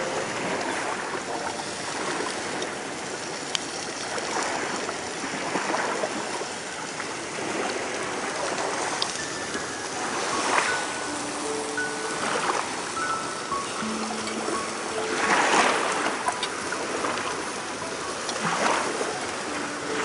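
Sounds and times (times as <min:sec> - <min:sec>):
small waves washing against shore: 0:00.0 - 0:20.0.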